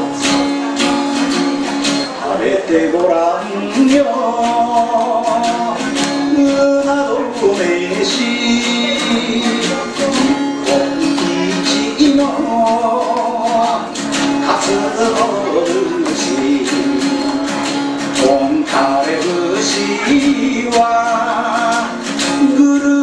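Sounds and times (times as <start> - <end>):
acoustic guitar strumming: 0.0 - 23.0
man singing: 0.0 - 23.0.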